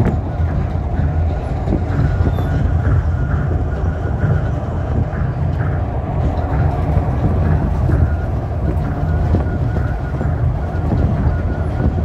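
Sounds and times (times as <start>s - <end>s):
monorail car running: 0.0s - 12.0s.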